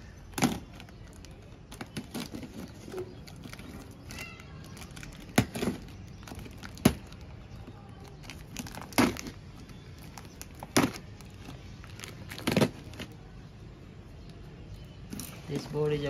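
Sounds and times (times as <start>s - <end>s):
tape crinkling: 0.3s - 13.3s.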